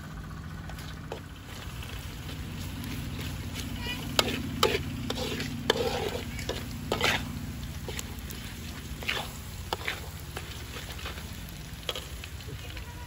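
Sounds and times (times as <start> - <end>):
spatula scraping wok: 1.1 - 12.8
steady sizzle: 1.1 - 13.0.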